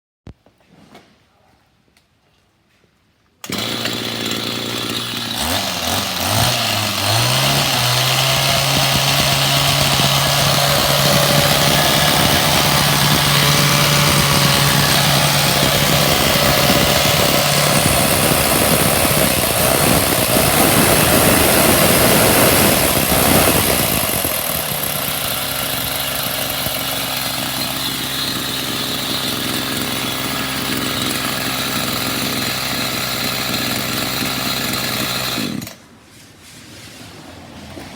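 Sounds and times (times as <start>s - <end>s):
hedge trimmer engine running: 3.4s - 35.8s.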